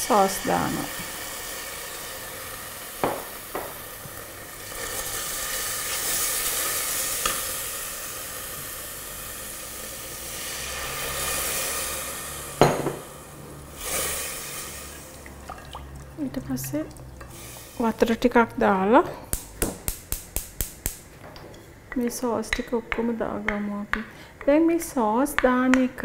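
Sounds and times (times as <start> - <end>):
sauce and oil sizzling in pot: 0.0 - 21.2.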